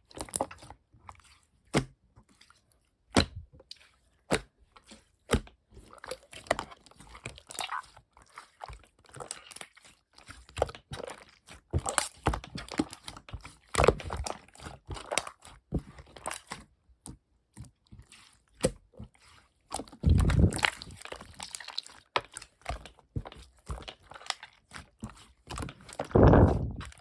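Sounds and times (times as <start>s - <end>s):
slime squishing by hand: 0.0s - 27.0s.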